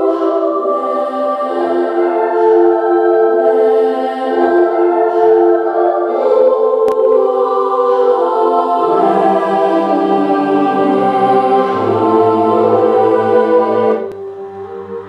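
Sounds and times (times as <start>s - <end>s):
choral music over speakers: 0.0s - 15.0s.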